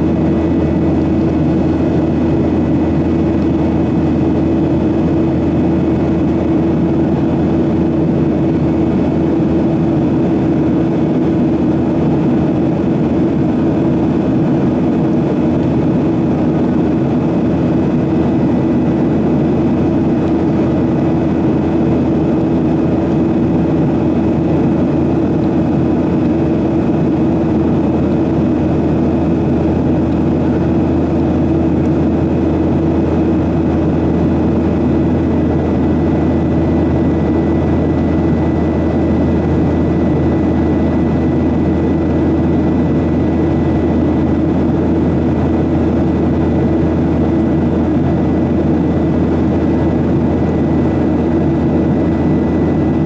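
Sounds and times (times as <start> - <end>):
jet engine drone: 0.0 - 53.0
low hum: 0.0 - 53.0.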